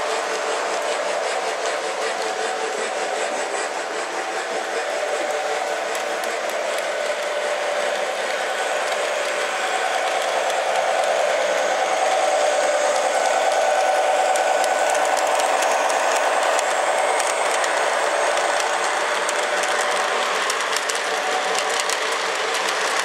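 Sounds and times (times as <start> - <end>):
model train motor whir: 0.0 - 23.0.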